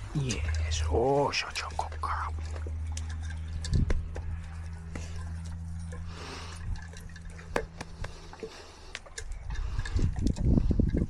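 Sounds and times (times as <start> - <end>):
dogs licking and chewing: 0.0 - 11.0
steady low hum: 0.0 - 11.0.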